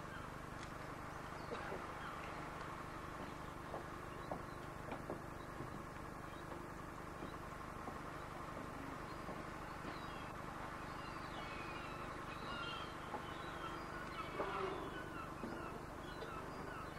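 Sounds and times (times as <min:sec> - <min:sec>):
faint bird calls: 0:01.2 - 0:16.9.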